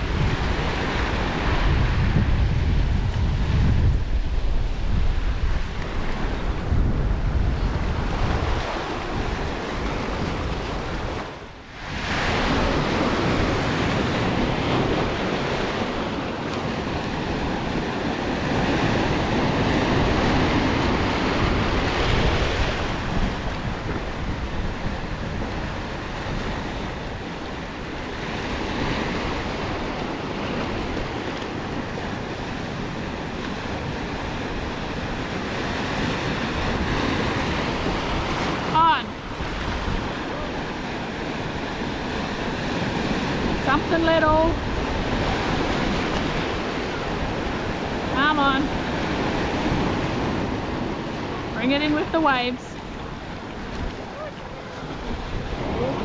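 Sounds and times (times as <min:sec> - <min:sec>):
surf breaking on rocky shore: 0:00.0 - 0:56.0
wind buffeting microphone: 0:00.0 - 0:56.0.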